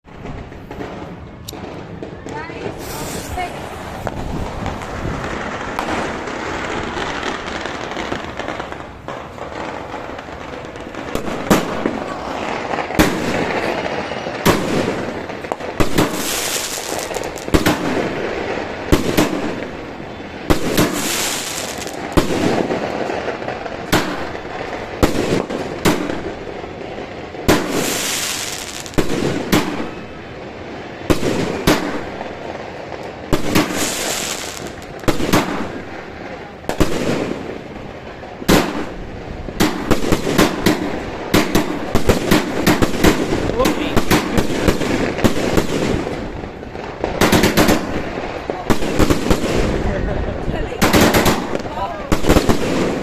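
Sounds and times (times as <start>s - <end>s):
fireworks crackling: 0.0s - 53.0s
fireworks sharp bangs: 0.0s - 53.0s.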